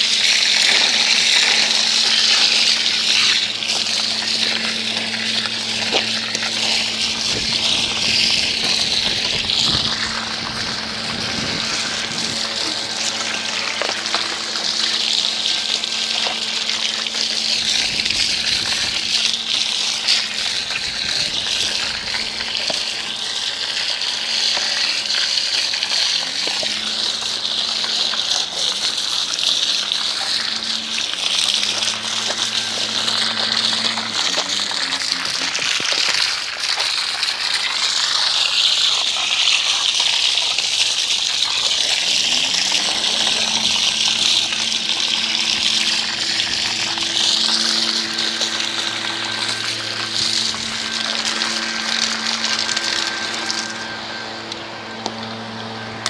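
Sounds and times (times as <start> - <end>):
pressure washer motor hum: 0.0 - 56.0.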